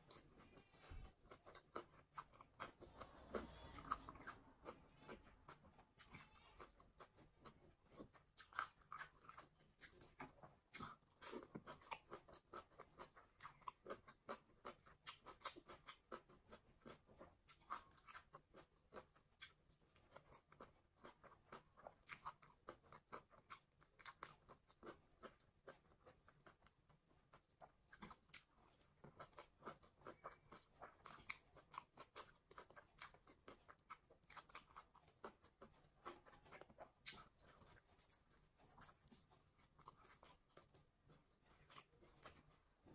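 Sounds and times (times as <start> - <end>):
faint crunchy chewing: 0.0 - 42.9.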